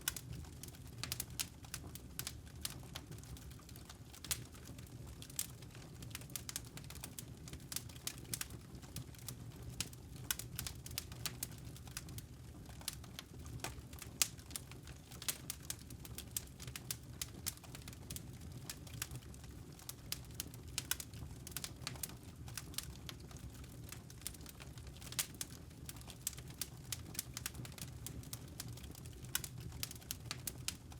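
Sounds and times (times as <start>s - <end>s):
low rumble of burning logs: 0.0s - 30.9s
wood fire crackling and popping: 0.0s - 30.9s.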